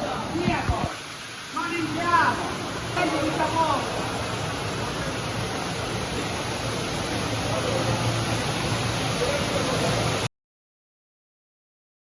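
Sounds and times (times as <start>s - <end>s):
storm water rushing: 0.0s - 10.3s.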